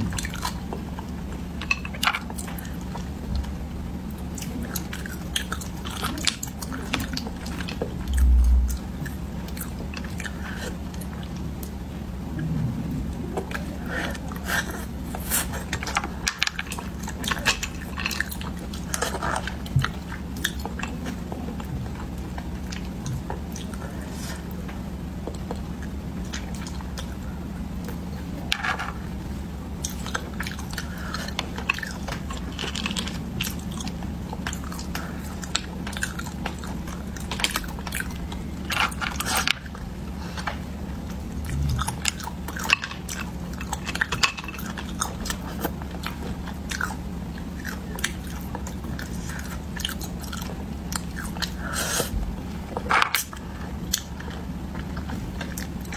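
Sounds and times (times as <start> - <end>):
close chewing: 0.0 - 55.9
steady low hum: 0.0 - 55.9.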